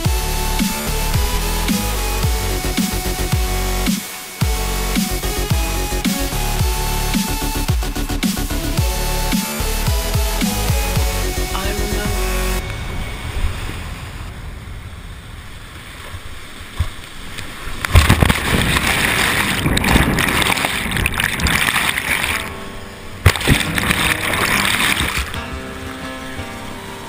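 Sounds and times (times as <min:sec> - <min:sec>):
whitewater rushing and churning: 0:00.0 - 0:07.8, 0:08.5 - 0:27.0.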